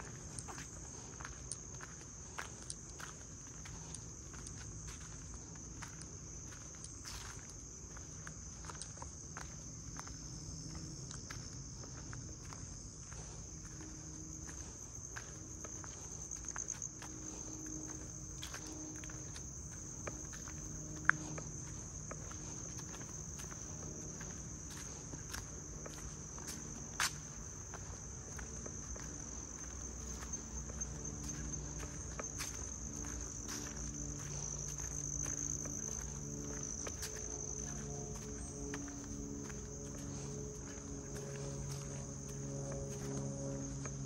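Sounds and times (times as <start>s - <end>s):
footsteps on gravel: 0.0s - 44.0s
insects droning: 0.0s - 44.0s.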